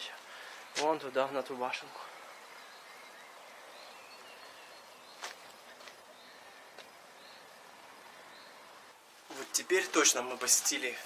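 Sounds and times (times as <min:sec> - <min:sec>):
faint bird chirps: 0:00.0 - 0:09.0
steady low hiss: 0:00.0 - 0:11.0.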